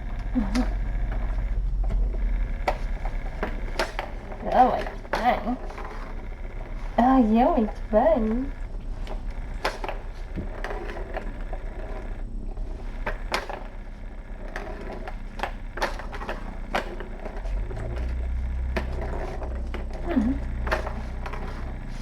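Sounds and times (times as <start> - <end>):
kittens playing with toys: 0.0 - 22.0
low hum: 0.0 - 22.0.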